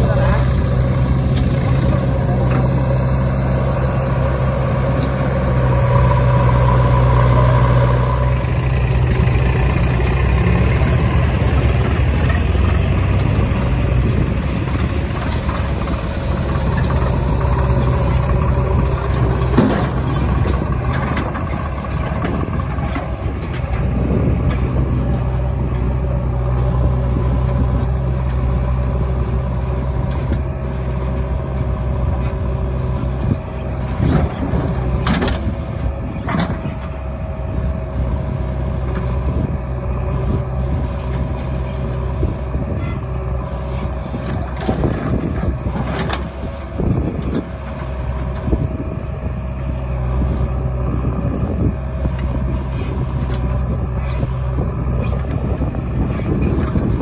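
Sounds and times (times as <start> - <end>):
backhoe digging mud: 0.0 - 57.0
diesel engines running: 0.0 - 57.0.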